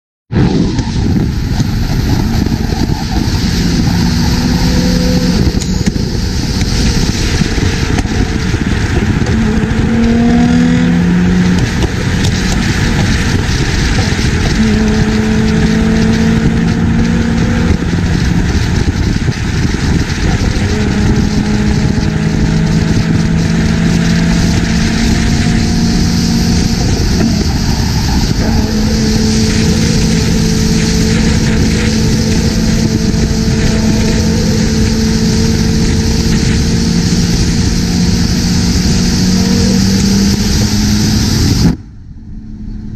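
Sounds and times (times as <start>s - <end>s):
car engines cruising: 0.3s - 42.9s
wind and road noise: 0.3s - 42.9s.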